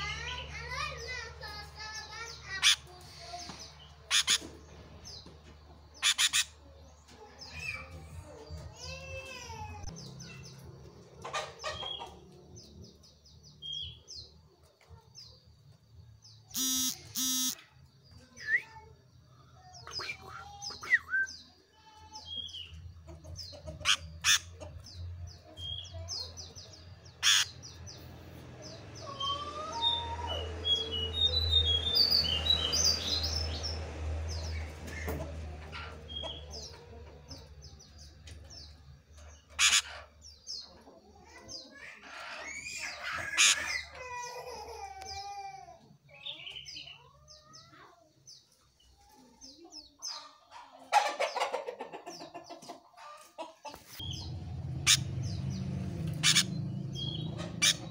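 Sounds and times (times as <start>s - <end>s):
caged bird chirping: 0.0s - 57.9s.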